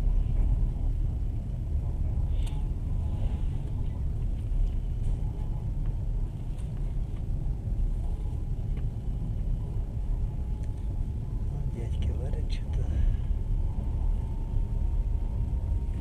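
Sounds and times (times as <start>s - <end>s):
thin faint whine: 0.0s - 16.0s
train rumble inside carriage: 0.0s - 16.0s.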